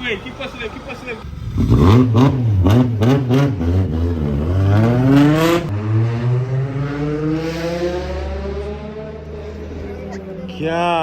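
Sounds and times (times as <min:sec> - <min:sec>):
car engine accelerating: 0:00.7 - 0:11.0.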